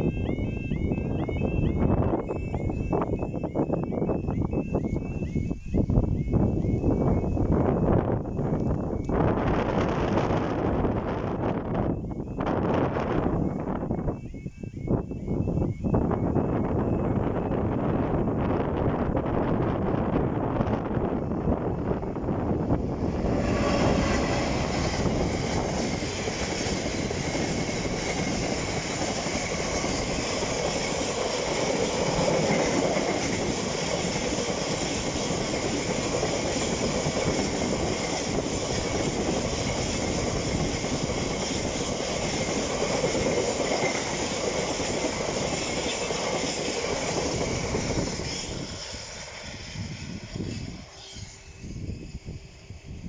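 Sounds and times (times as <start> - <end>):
diesel locomotive passing: 0.0 - 53.0
train wheels rumbling on rails: 0.0 - 53.0.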